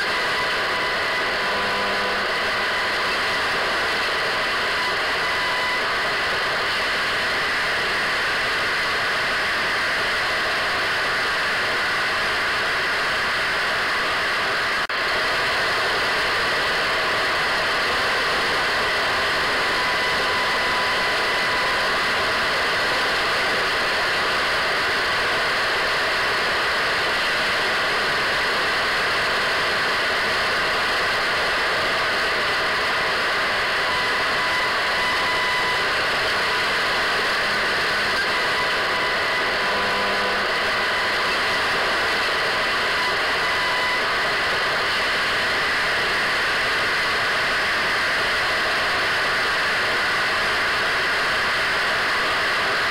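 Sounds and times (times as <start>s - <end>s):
radio static hiss: 0.0s - 52.9s.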